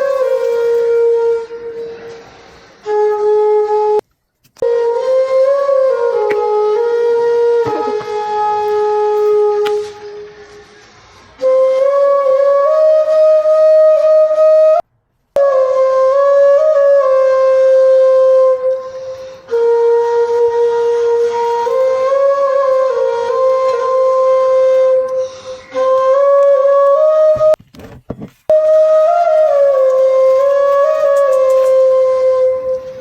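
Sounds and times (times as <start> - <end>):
solo flute melody: 0.0 - 27.6, 28.5 - 33.0.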